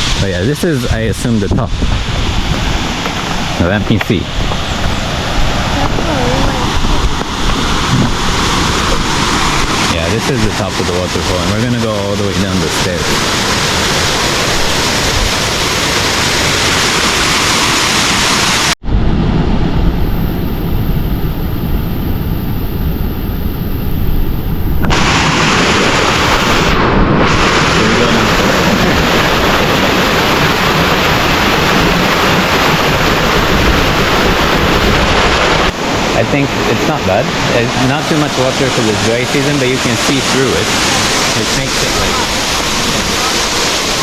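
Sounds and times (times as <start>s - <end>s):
waterfall roaring: 0.0s - 18.8s, 24.8s - 44.0s.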